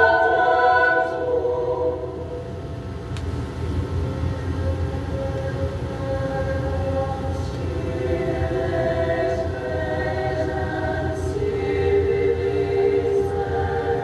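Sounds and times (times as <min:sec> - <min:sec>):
choir singing chords: 0:00.0 - 0:03.1, 0:04.7 - 0:14.0
low steady hum: 0:00.0 - 0:14.0.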